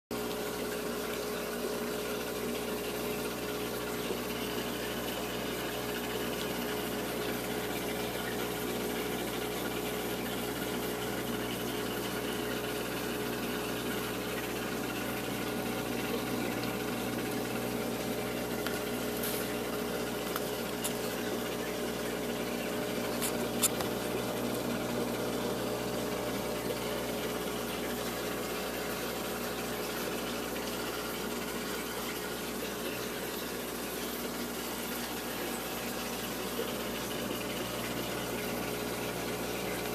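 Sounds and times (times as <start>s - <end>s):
aquarium water rushing: 0.1s - 39.9s
pump mechanical hum: 0.1s - 39.9s.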